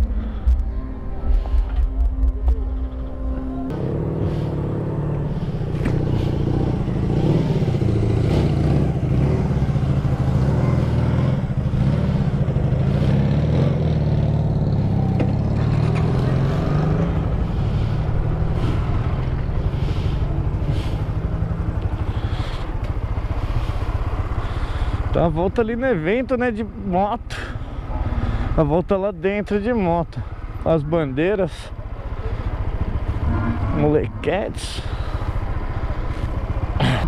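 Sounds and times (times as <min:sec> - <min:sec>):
motorcycle engine at low revs: 0:03.7 - 0:37.0.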